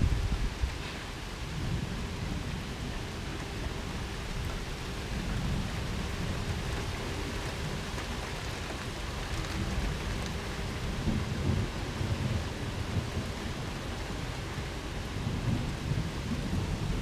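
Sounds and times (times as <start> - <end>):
steady rain: 0.0 - 17.0
thunder rumble: 0.0 - 17.0.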